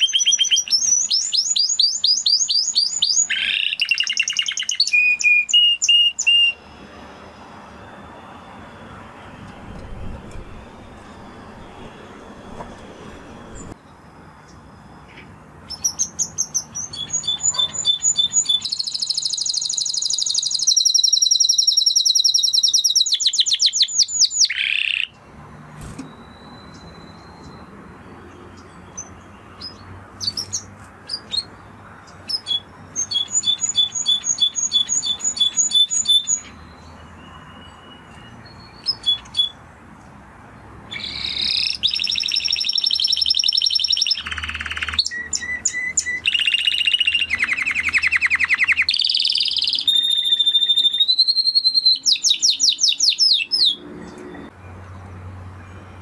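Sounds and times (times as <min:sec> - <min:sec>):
canary singing trills: 0:00.0 - 0:25.2, 0:25.8 - 0:39.6, 0:40.9 - 0:54.5.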